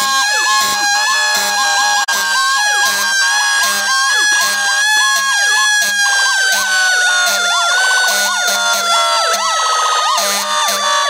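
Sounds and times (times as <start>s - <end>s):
siren long falling tone: 0.0s - 11.0s
siren yelping: 0.0s - 11.0s.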